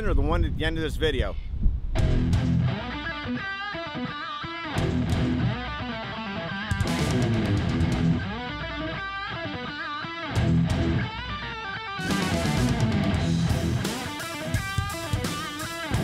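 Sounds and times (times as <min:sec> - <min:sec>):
rock music with electric guitar: 0:02.0 - 0:16.0.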